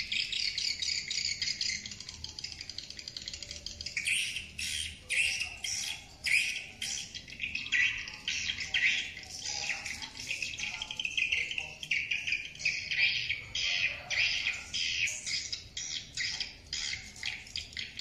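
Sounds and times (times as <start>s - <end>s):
recorded bird chirps over loudspeaker: 0.0s - 18.0s.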